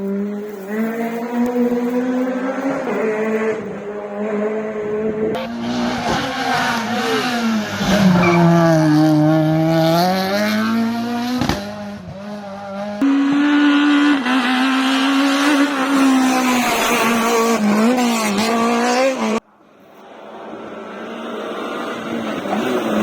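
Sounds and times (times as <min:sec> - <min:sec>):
rally car engine at high revs: 0:00.0 - 0:19.4, 0:20.5 - 0:23.0.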